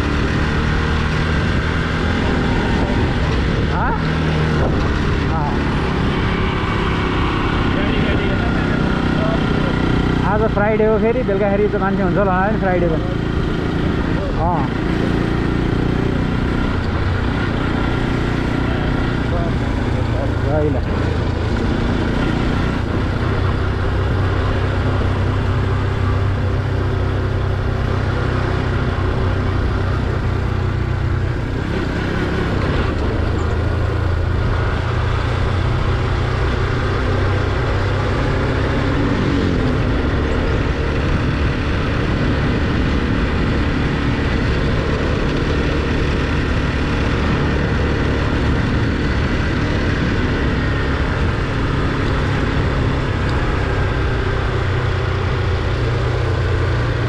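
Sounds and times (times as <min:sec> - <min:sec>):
motorcycle engine droning: 0:00.0 - 0:57.0
rush of noise: 0:00.0 - 0:57.0.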